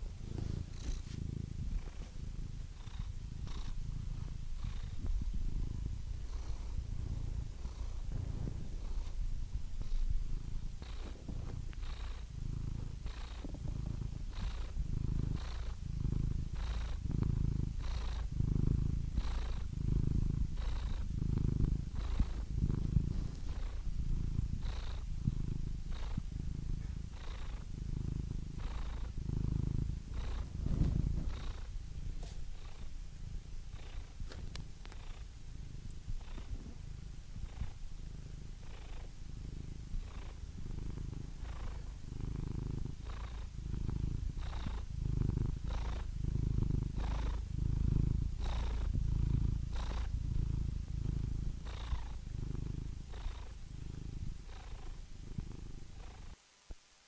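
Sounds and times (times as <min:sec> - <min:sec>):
cat purring: 0:00.0 - 0:56.5.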